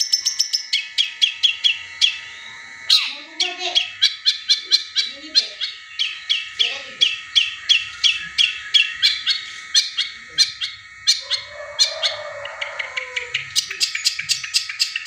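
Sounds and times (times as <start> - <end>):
bird sharp downward chirps: 0.0 - 15.0.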